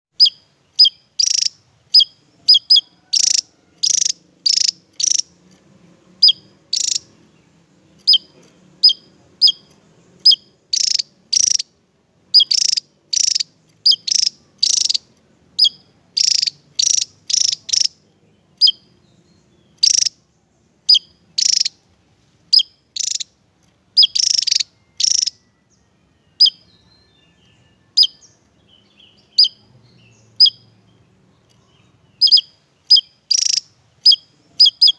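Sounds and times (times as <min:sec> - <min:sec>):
bird singing high sharp notes: 0:00.2 - 0:05.4, 0:06.2 - 0:34.9.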